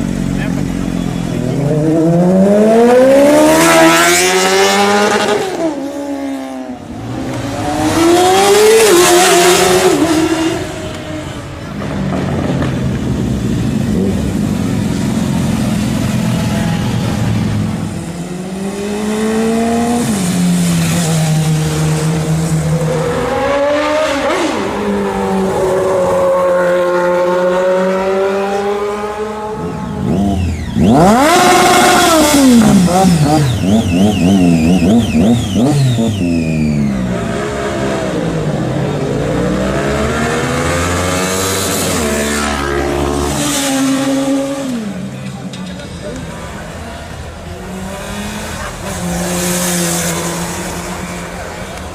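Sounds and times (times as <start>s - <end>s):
motorcycle engines revving: 0.0s - 51.9s.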